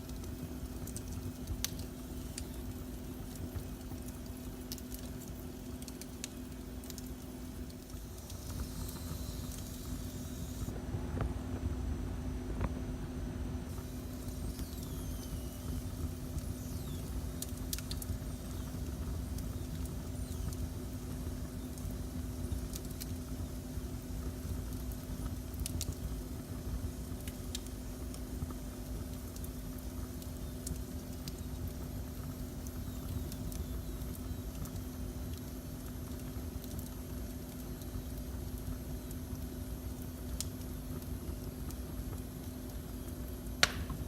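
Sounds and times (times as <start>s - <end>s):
fire crackling in fireplace: 0.0s - 44.0s.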